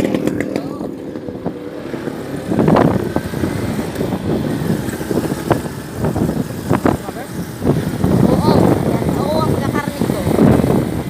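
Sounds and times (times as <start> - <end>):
motor vehicle rumbling: 0.0 - 11.0.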